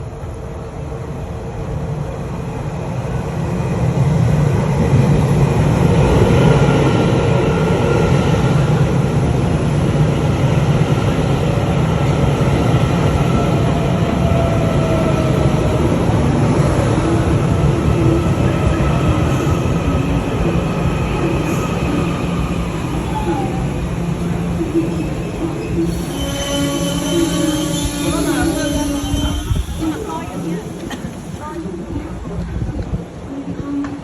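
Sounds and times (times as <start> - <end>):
thin whine of train: 0.0 - 34.0
train rumbling into station: 0.0 - 34.0.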